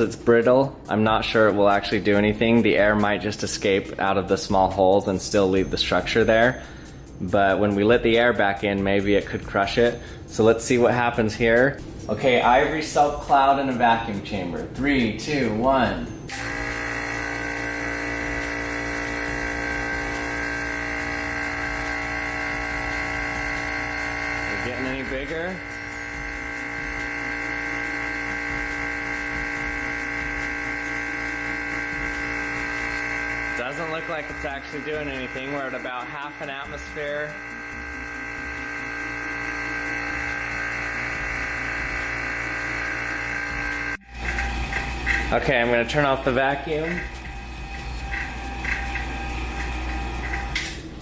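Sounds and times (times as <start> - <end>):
vacuum pump humming: 0.0 - 51.0.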